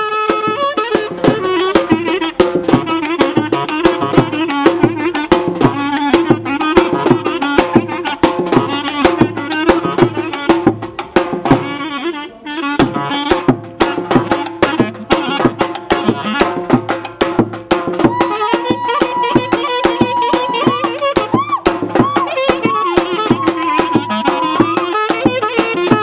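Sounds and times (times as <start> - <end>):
clarinet melody: 0.0 - 10.7, 11.5 - 17.0, 18.0 - 26.0
loud drum beat: 0.2 - 11.8, 12.8 - 26.0.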